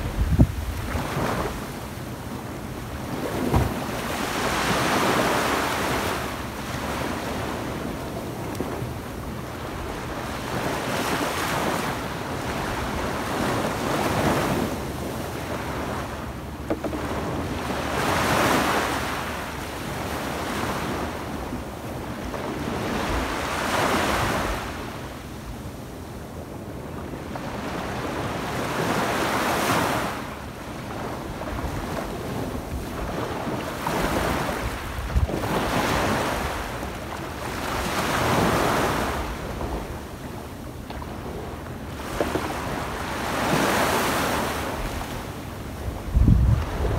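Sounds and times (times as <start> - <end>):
waves breaking on beach: 0.0 - 46.9
wind rumble on microphone: 0.0 - 46.9.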